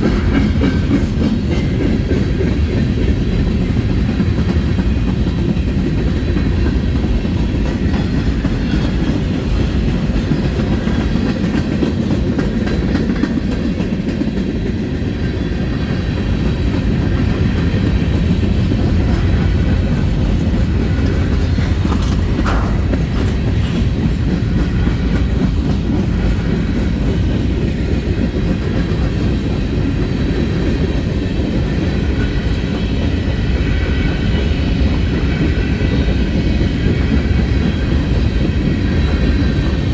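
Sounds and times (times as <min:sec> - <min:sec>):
wheels clacking over rail joints: 0:00.0 - 0:33.4
train wheels rumbling on rail: 0:00.0 - 0:39.9.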